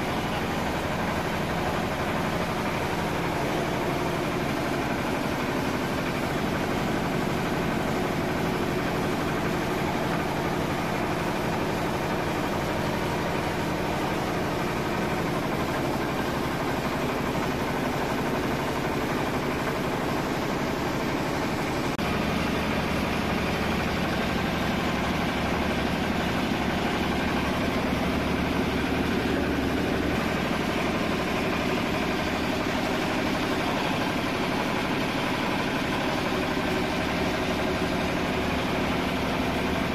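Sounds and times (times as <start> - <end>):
diesel engine running steadily: 0.0 - 39.9
rice huller running: 0.0 - 39.9.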